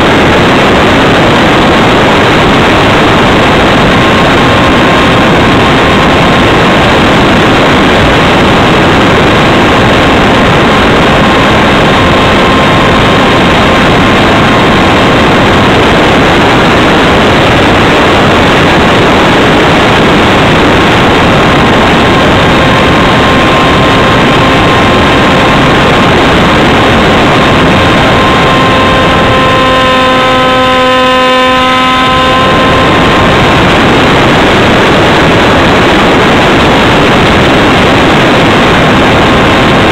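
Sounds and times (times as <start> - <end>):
electric motor and propeller whine: 0.0 - 39.9
wind rush: 0.0 - 39.9.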